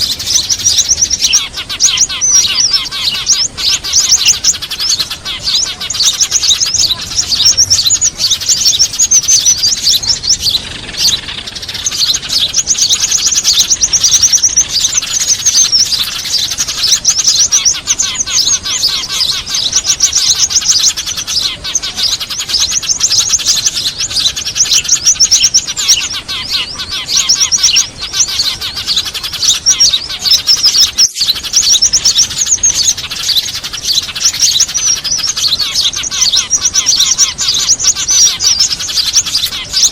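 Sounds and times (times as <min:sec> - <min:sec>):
crowd of sparrows chirping: 0:00.0 - 0:39.9.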